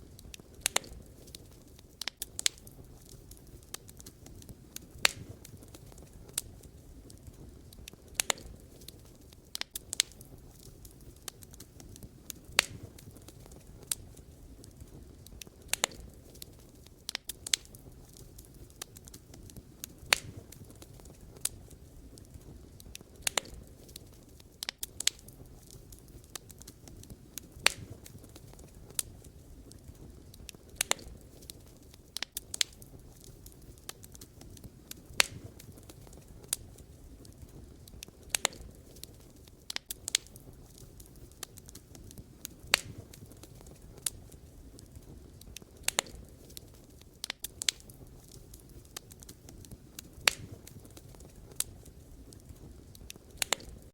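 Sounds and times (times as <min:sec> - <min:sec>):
burning logs popping and snapping: 0:00.0 - 0:53.9
low rumble of flames: 0:00.0 - 0:53.9.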